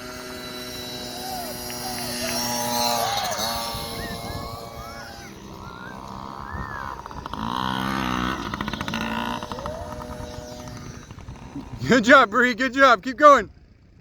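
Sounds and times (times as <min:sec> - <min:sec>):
small dirt bike engines revving: 0:00.0 - 0:14.0.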